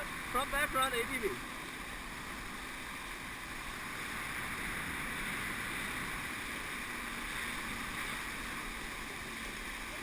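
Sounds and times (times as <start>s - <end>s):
rush of water spray: 0.0s - 10.0s.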